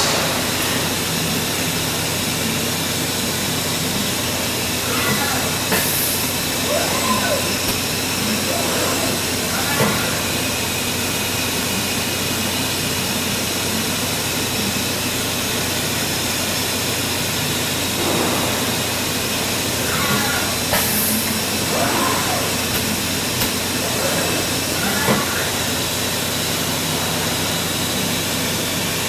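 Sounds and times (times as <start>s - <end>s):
machine spindle hiss: 0.0s - 12.4s, 17.6s - 29.0s.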